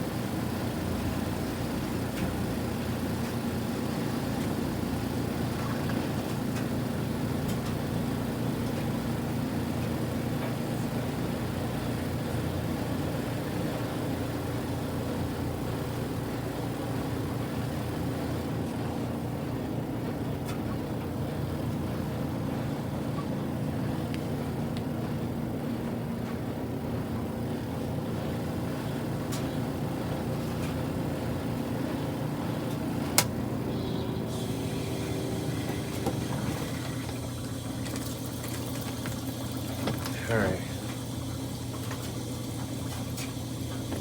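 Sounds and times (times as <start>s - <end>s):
washing machine motor hum: 0.0s - 44.0s.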